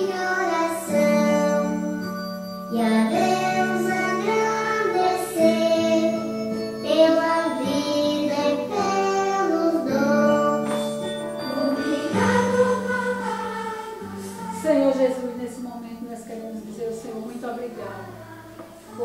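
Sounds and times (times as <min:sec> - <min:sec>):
backing music: 0:00.0 - 0:19.0
sung melody: 0:00.0 - 0:19.0.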